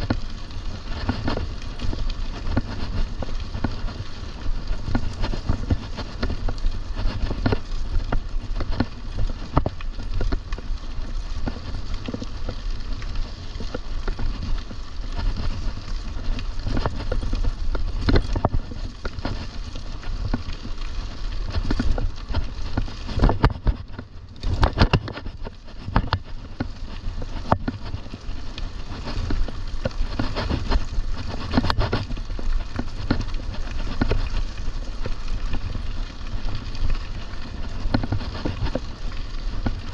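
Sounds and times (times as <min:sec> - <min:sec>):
mountain bike rattling on trail: 0:00.0 - 0:39.9.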